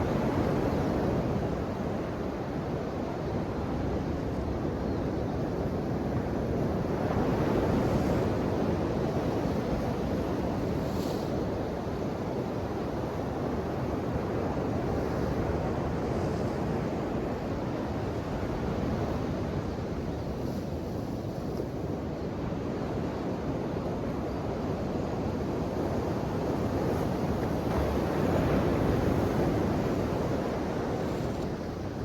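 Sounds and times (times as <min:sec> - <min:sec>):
ocean waves breaking on shore: 0:06.3 - 0:32.0.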